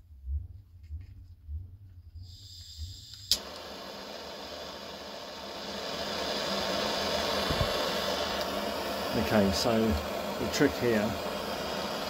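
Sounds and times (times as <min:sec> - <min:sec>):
blowtorch flame hissing: 0:02.2 - 0:12.0
blowtorch igniting click: 0:02.2 - 0:12.0.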